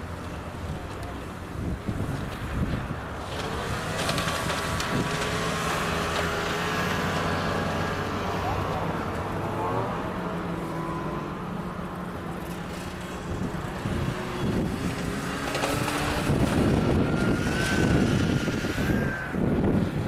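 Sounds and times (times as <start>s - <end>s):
wind buffeting microphone: 0.0s - 9.4s, 12.7s - 20.0s
snowmobile engines passing: 0.0s - 20.0s.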